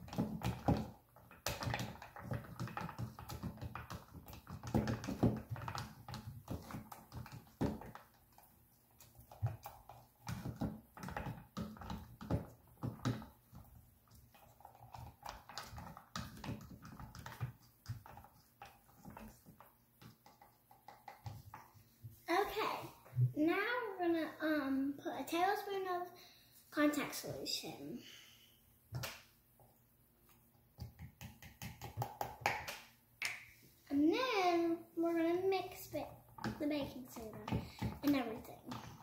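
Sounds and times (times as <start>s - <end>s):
stick stirring in plastic tub: 0.0s - 24.8s, 28.9s - 39.0s.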